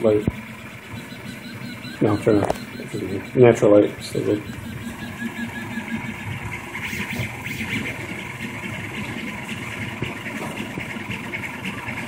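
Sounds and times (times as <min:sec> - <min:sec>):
printer stepper motors whirring: 0:00.0 - 0:12.0.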